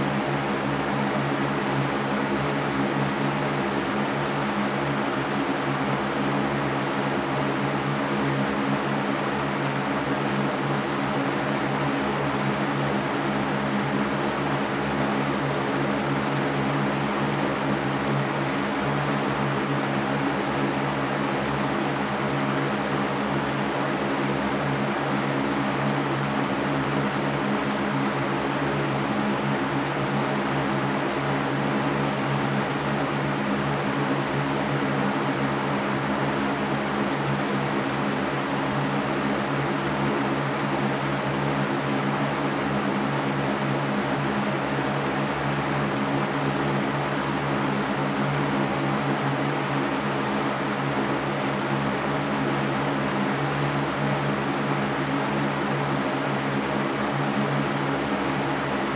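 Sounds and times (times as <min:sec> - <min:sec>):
floor fan running: 0:00.0 - 0:58.9.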